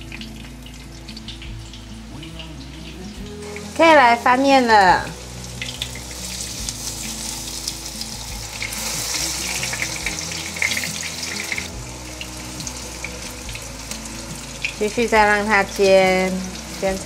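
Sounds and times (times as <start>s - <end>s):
sausages sizzling in oil: 0.0s - 17.0s.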